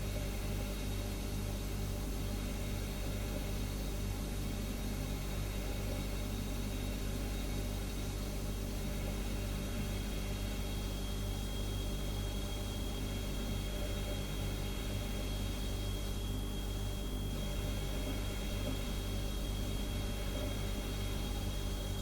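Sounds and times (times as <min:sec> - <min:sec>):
refrigerator humming: 0:00.0 - 0:22.0
faint high whine: 0:02.4 - 0:22.0.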